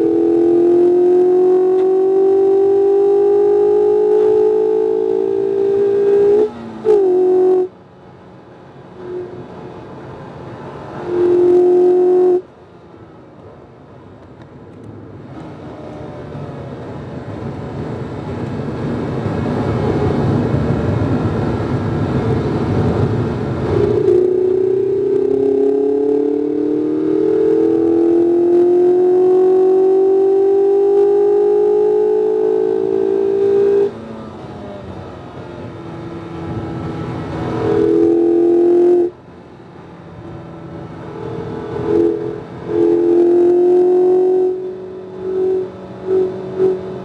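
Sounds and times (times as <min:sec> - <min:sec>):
car engine revving: 0:00.0 - 0:12.6, 0:15.0 - 0:47.0.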